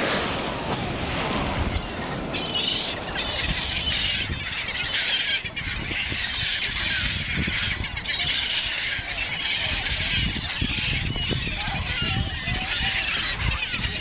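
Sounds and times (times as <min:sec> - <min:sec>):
gulls calling: 0:00.0 - 0:14.0
wind rumble on microphone: 0:00.0 - 0:14.0.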